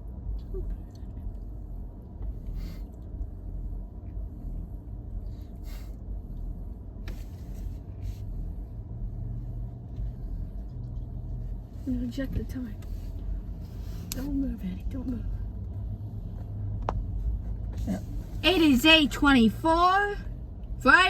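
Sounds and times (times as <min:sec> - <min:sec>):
car interior rumble: 0:00.0 - 0:21.0.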